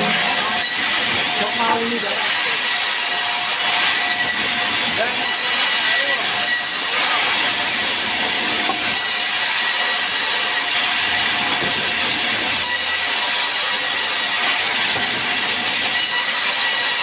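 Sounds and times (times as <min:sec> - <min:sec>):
saw cutting through wood: 0:00.0 - 0:17.0.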